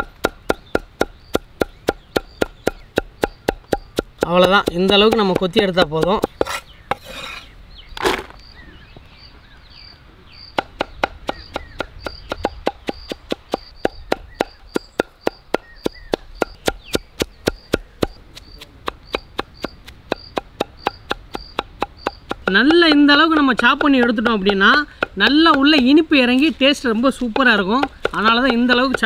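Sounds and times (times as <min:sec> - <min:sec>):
cleaver chopping on wooden block: 0:00.0 - 0:07.2, 0:10.5 - 0:26.5, 0:27.2 - 0:29.0.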